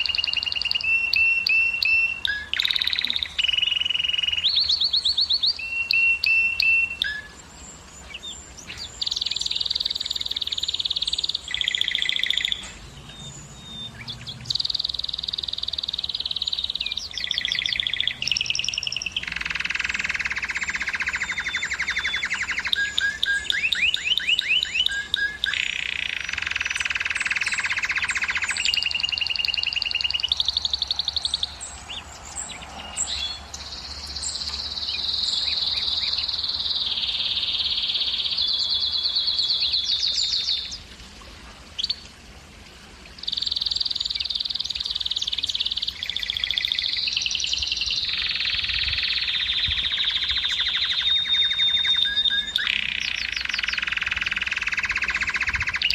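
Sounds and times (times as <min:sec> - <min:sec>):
canary singing rolling trills: 0:00.0 - 0:40.8, 0:43.2 - 0:55.9.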